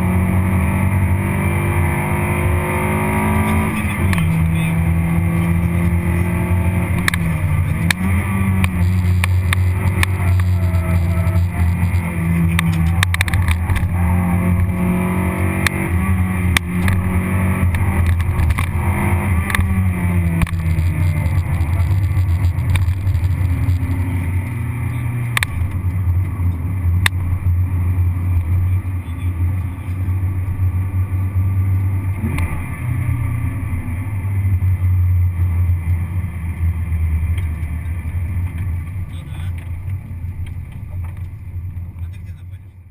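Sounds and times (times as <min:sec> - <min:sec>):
race car engine from cabin: 0:00.0 - 0:42.9
road and wind noise: 0:00.0 - 0:42.9.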